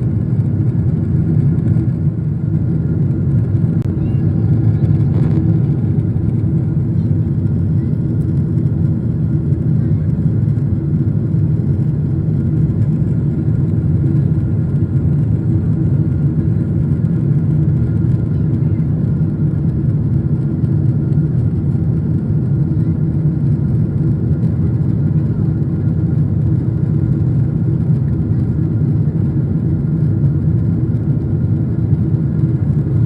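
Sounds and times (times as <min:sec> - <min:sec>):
airliner cabin engine drone: 0:00.0 - 0:33.0.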